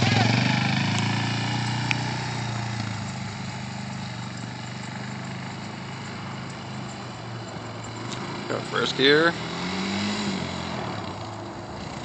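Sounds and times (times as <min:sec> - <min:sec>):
quad engine running at low revs: 0:00.0 - 0:12.0.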